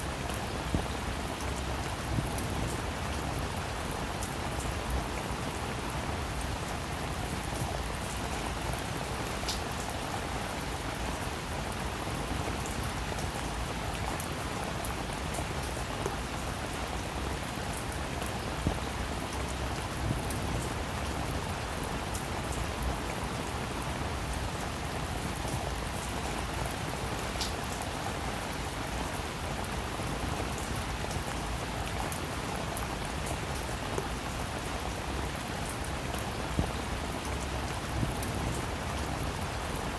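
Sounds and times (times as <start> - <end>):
raindrops pattering on a surface: 0.0 - 39.9
steady rainfall: 0.0 - 39.9.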